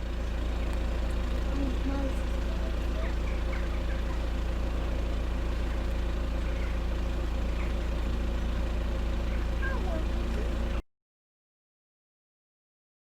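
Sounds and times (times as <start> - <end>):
car engine low hum: 0.0 - 10.8.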